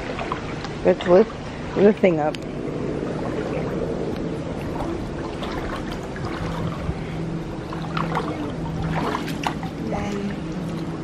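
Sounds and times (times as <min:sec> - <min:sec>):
steady low hum: 0:00.0 - 0:11.0
water sloshing: 0:00.0 - 0:11.0.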